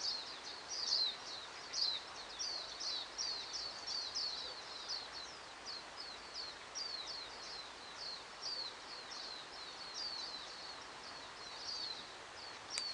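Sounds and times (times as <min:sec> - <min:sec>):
small birds chirping: 0:00.0 - 0:12.9
steady background hiss: 0:00.0 - 0:12.9.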